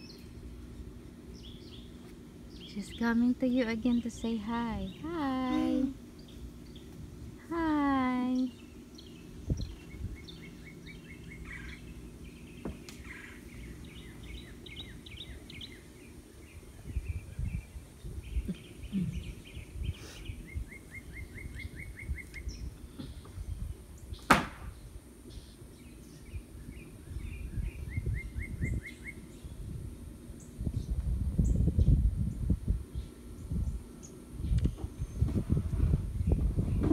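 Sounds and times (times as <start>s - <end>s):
low rumbling: 0.0s - 25.0s, 26.2s - 36.9s
small birds trilling: 0.0s - 36.9s.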